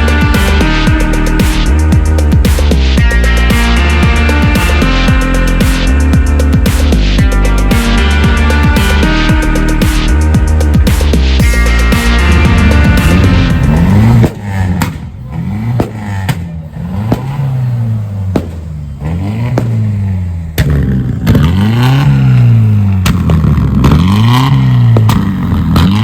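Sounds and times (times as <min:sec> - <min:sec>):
car engine revving: 0:00.0 - 0:26.0
sharp exhaust cracks: 0:00.0 - 0:26.0.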